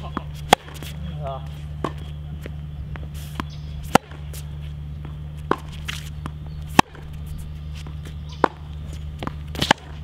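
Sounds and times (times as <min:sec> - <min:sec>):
racquet hitting tennis ball: 0:00.0 - 0:01.0, 0:01.7 - 0:10.0
shoe scuffs on court: 0:00.0 - 0:04.8, 0:05.4 - 0:10.0
steady low hum: 0:00.0 - 0:10.0.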